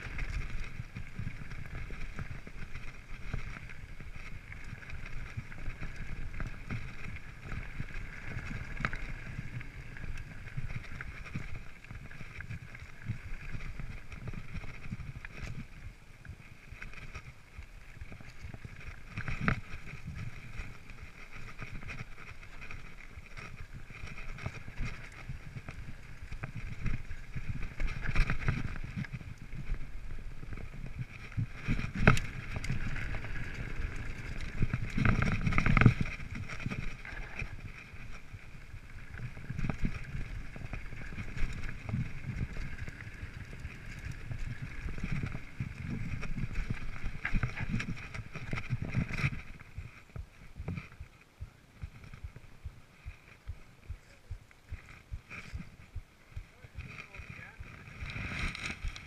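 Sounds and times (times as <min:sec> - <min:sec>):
bike tyres rumbling on dirt: 0:00.0 - 0:59.0.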